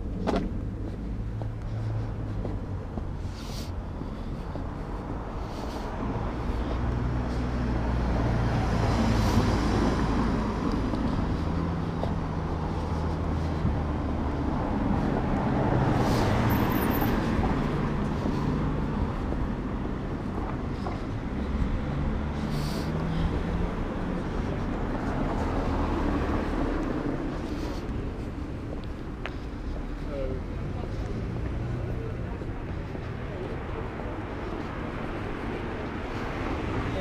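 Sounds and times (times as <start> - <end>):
cars going by on street: 0.0 - 37.0.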